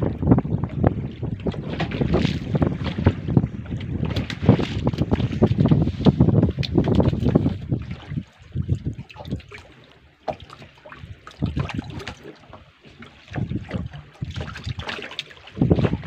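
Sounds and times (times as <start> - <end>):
wind buffeting microphone: 0.0 - 9.8, 11.0 - 16.0
knocks and thumps from boat: 0.0 - 16.0.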